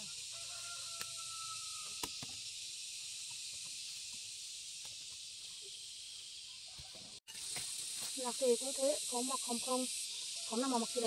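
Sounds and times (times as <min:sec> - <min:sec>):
insect chorus hissing: 0:00.0 - 0:11.0.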